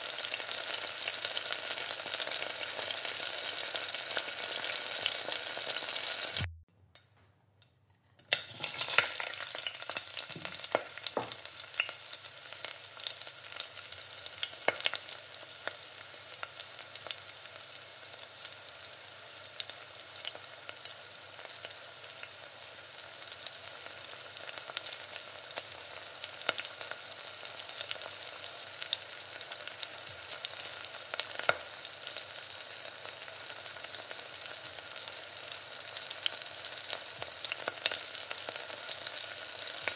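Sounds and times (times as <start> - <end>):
onion sizzling in oil: 0.0 - 6.5, 8.4 - 39.9.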